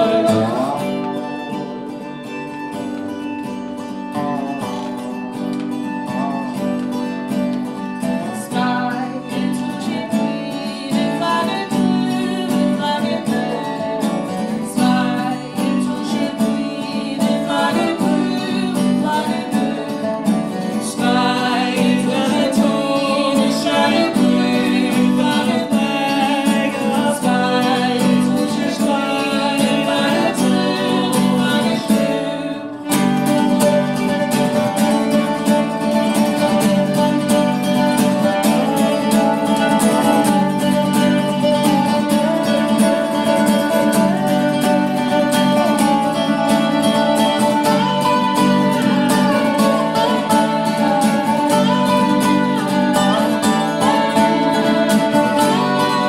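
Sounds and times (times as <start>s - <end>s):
acoustic guitar: 0.0s - 56.0s
dobro: 0.0s - 56.0s
fiddle: 0.0s - 56.0s.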